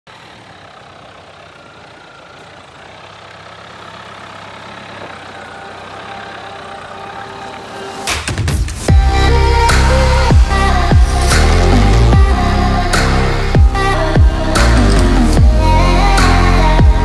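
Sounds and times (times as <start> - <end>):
car engine running: 0.1 - 17.0.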